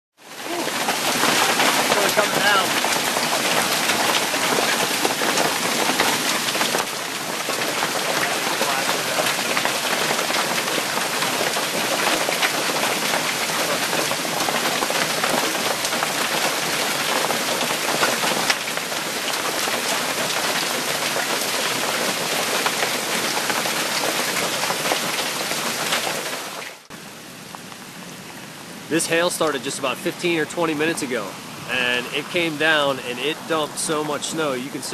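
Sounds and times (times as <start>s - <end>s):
heavy hail and rain falling: 0.2s - 26.9s, 29.1s - 34.9s.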